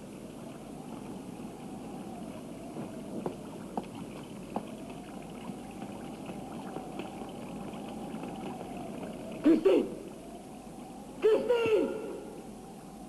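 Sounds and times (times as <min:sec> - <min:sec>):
faint wavering tone: 0:00.0 - 0:13.0.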